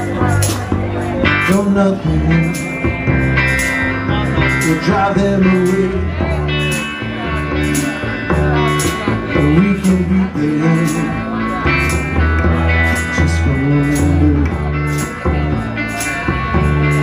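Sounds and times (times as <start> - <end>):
electric guitar: 0.0 - 17.0
upright bass: 0.0 - 17.0.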